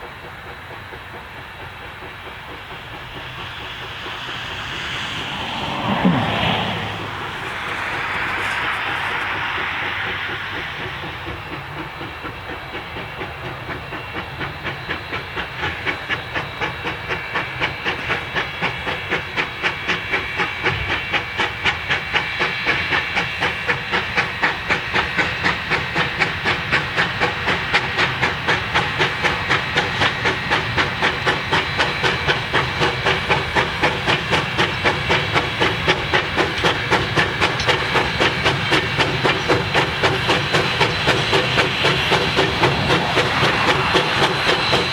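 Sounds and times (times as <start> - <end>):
steam hissing: 0.0 - 44.9
steam locomotive chuffing: 0.0 - 44.9.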